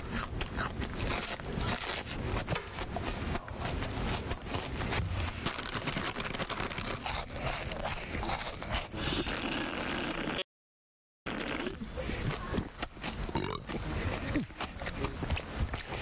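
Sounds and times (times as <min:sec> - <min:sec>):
exaggerated eating noises: 0:00.0 - 0:10.4, 0:11.3 - 0:16.0.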